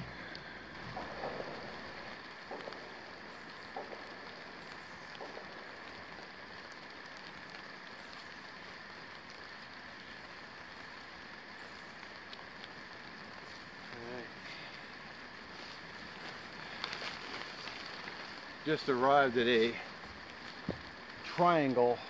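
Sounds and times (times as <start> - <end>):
light rain on vegetation: 0.0 - 22.0.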